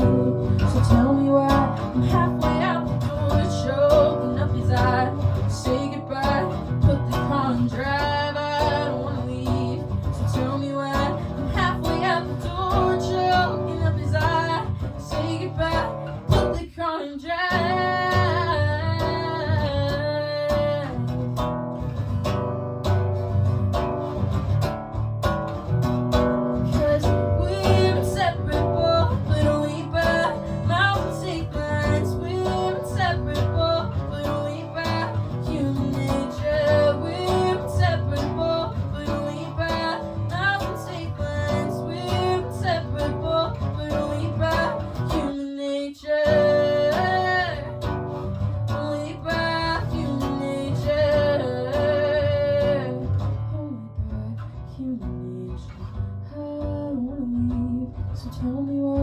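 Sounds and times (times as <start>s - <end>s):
strummed acoustic guitar song: 0.0s - 59.0s.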